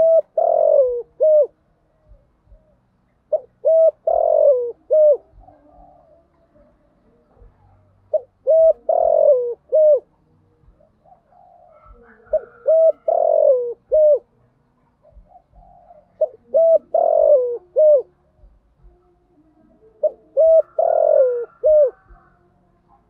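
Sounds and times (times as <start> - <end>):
dove cooing: 0.0 - 14.3, 15.0 - 18.5, 19.6 - 23.0.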